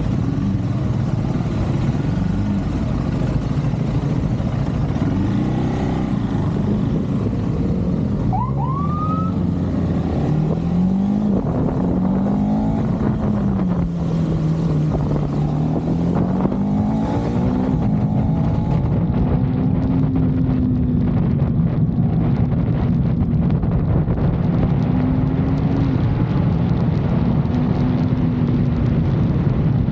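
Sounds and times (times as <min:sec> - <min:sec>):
motorcycle engine accelerating: 0:00.0 - 0:29.9
wind and road noise: 0:00.0 - 0:29.9.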